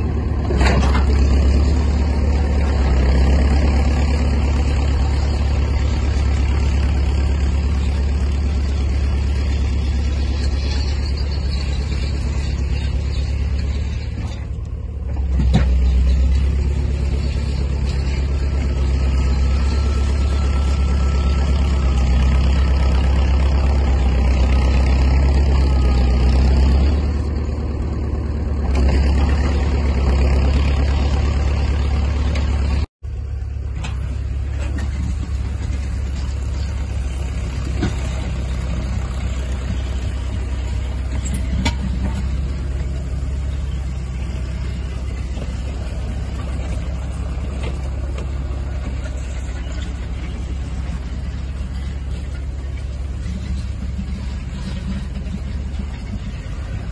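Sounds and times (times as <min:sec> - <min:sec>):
large vehicle engine humming: 0:00.0 - 0:56.9.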